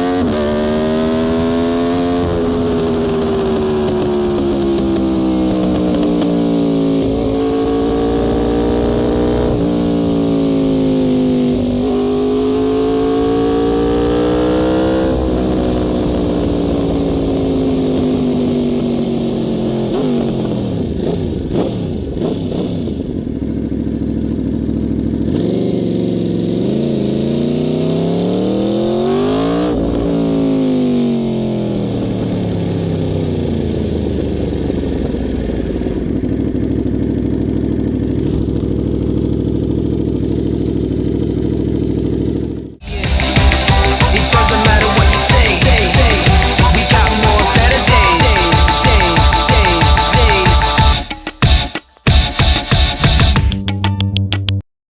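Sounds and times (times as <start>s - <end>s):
motorcycle engine revving through gears: 0.0s - 53.4s.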